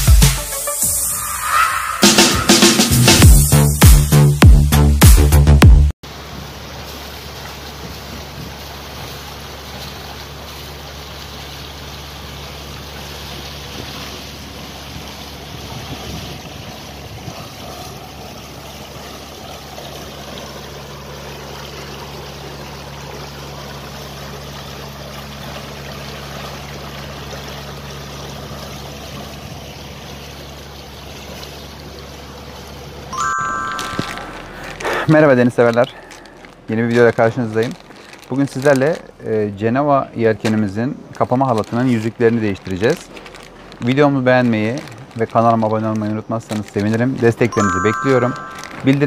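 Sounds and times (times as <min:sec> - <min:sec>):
water splashing along a hull: 0:06.0 - 0:49.0.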